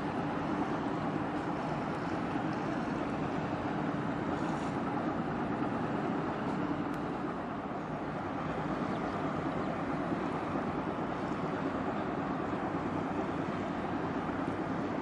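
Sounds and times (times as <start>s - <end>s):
distant engines rumbling: 0.0s - 15.0s
faint steady hum: 0.0s - 15.0s.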